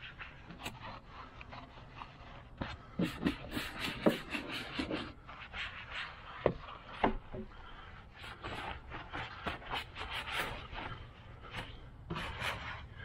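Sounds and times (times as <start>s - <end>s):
brush scrubbing: 0.0s - 13.0s.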